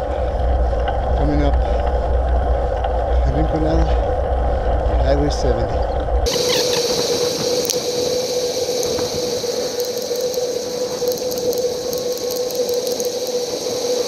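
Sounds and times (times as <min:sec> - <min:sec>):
bicycle whirring: 0:00.0 - 0:14.0
constant hum and hiss: 0:00.0 - 0:14.0
wind: 0:00.0 - 0:14.0.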